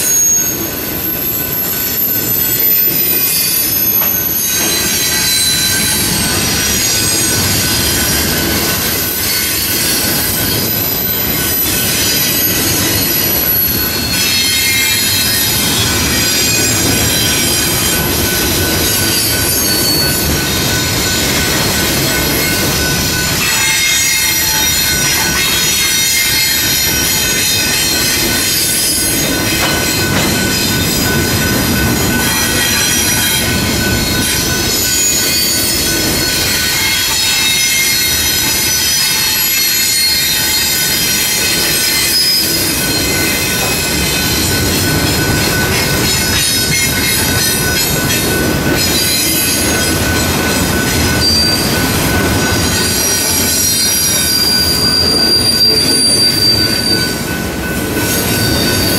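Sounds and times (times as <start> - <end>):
wheels squealing: 0.0 - 57.3
train wheels rumbling on rails: 0.0 - 58.9.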